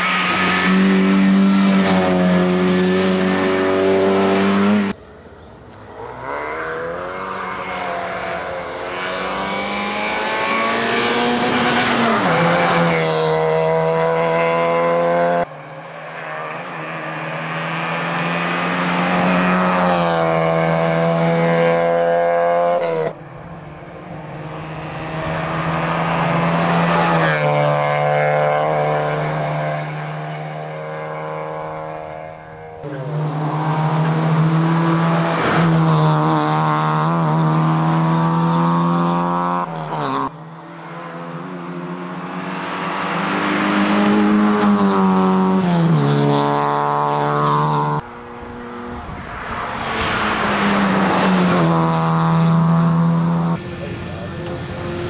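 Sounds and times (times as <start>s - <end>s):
race car engines accelerating: 0.0s - 55.0s.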